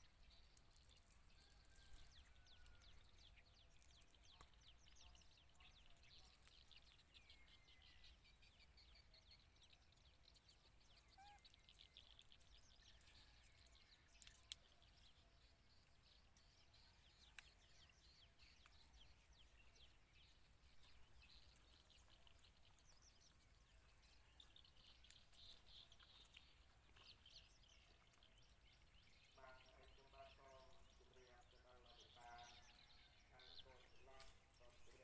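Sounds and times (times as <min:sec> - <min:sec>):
bird chirps: 0:00.0 - 0:35.0.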